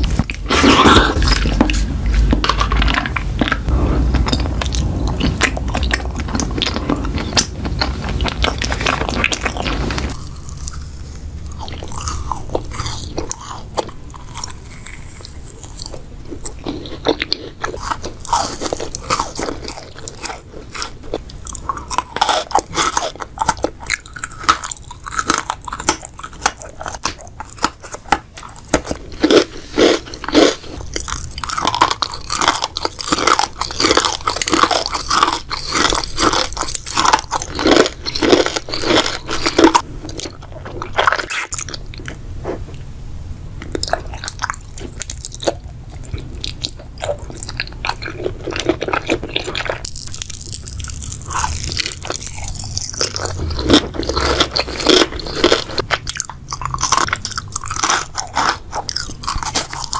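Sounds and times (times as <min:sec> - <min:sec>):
crunchy chewing: 0:00.0 - 0:42.8, 0:43.6 - 0:59.9.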